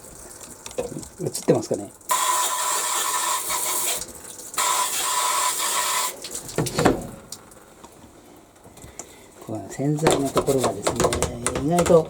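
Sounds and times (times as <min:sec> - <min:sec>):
water jetting from tap: 0:00.0 - 0:12.0.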